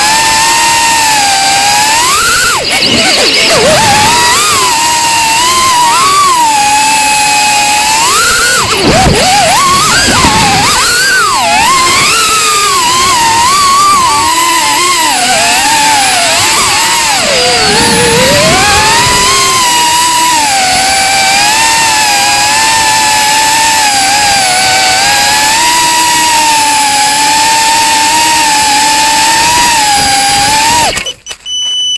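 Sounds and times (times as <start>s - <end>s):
drone motors whining: 0.0s - 31.9s.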